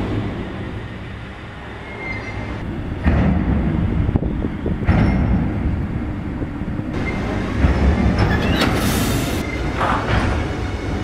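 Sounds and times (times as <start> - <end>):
electric locomotive rumbling: 0.0 - 11.0.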